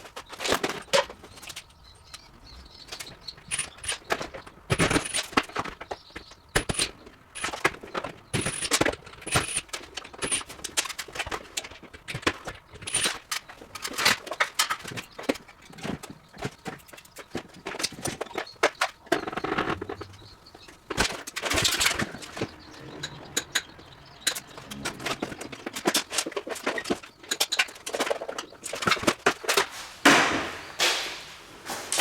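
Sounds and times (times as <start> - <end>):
sharp knocks and clicks: 0.3 - 30.3.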